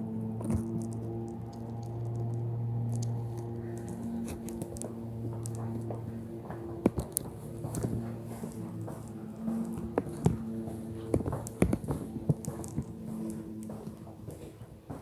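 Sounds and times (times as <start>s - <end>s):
soft music of low chords: 0.0s - 15.0s
footsteps: 0.4s - 15.0s.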